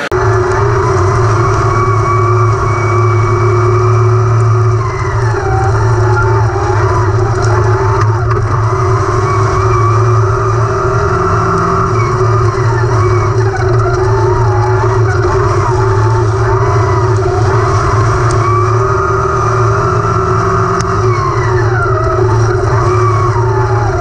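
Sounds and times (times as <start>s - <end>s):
race car engines running hard: 0.0s - 24.0s.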